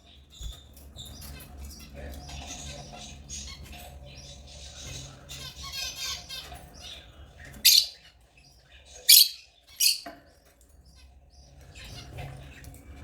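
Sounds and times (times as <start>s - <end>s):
lovebirds chirping: 0.0s - 12.2s.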